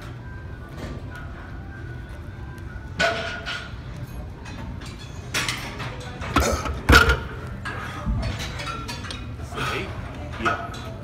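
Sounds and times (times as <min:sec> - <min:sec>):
gym background music: 0:00.0 - 0:11.0.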